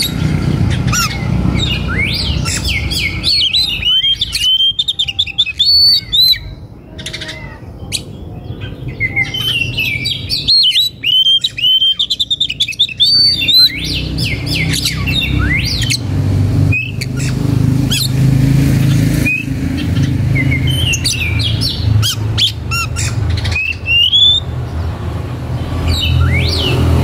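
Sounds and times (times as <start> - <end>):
birds chirping and squawking: 0.0 - 27.0.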